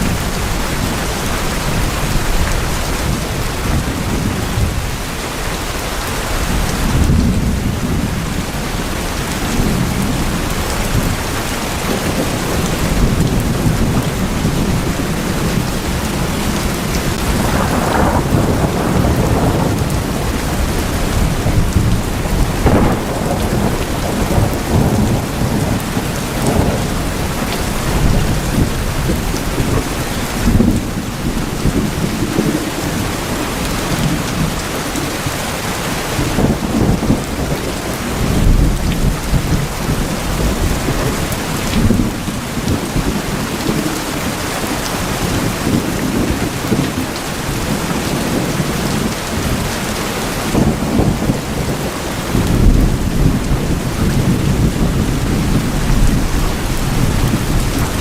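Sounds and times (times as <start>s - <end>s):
low thunder rumbling: 0.0s - 58.0s
rain drumming on a tin roof: 0.0s - 58.0s.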